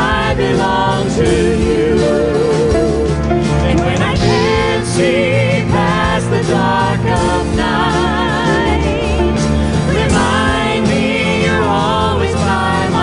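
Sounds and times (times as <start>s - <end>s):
drum kit: 0.0s - 13.0s
guitar: 0.0s - 13.0s
piano: 0.0s - 13.0s
women singing with vibrato: 0.0s - 13.0s.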